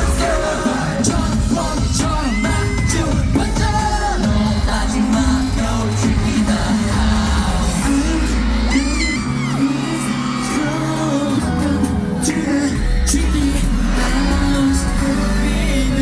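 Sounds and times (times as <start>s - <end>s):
crowd yelling and whooping: 0.0s - 16.0s
pop song with vocals over beat: 0.0s - 16.0s.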